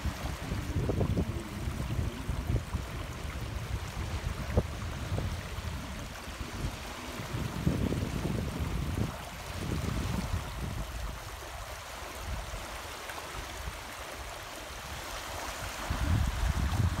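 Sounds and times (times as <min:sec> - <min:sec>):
wind buffeting microphone: 0:00.0 - 0:12.8, 0:13.4 - 0:17.0
shallow water rushing: 0:00.0 - 0:17.0.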